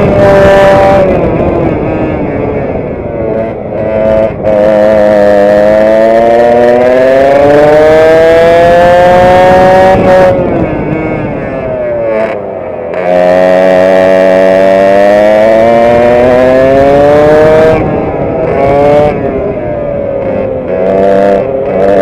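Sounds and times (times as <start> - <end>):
kart engine revving: 0.0 - 22.0.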